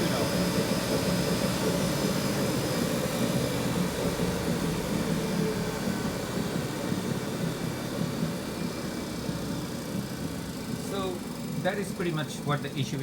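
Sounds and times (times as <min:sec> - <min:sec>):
treadmill motor and belt hum: 0:00.0 - 0:13.0.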